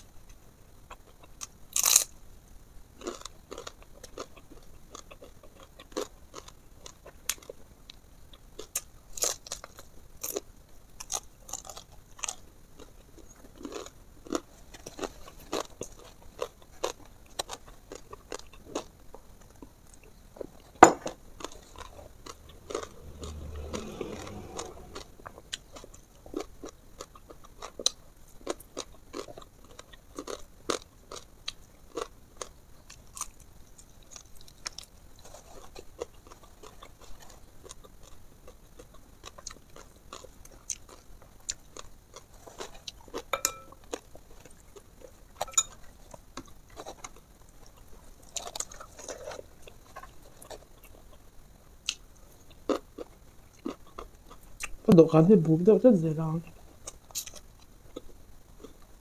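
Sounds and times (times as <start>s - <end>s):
chewing crispy fried fish: 0.2s - 2.2s, 2.9s - 54.9s, 56.4s - 59.0s.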